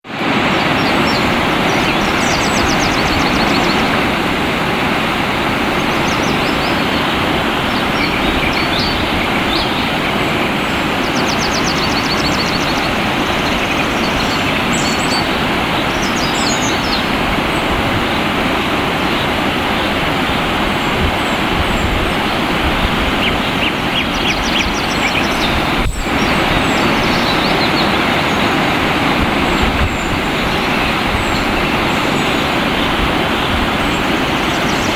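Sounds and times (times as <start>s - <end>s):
water rushing: 0.0s - 34.9s
songbirds chirping and trilling: 0.2s - 34.9s.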